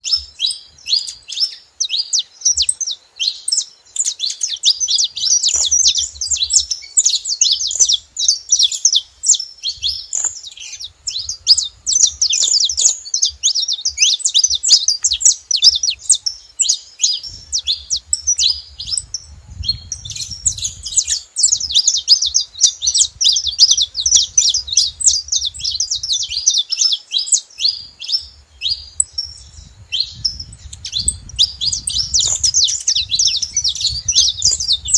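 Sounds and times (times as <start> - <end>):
finches chirping and singing: 0.0 - 34.9.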